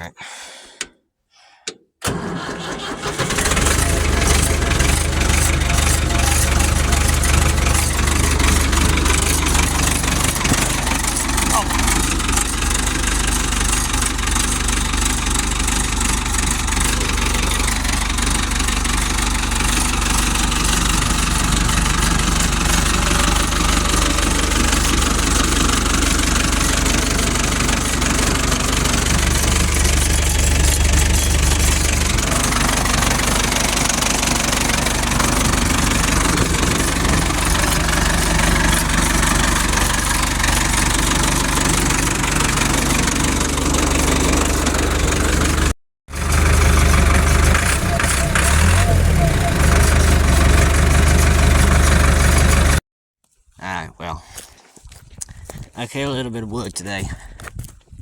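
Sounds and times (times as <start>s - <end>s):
backhoe engine idling: 2.0s - 52.8s.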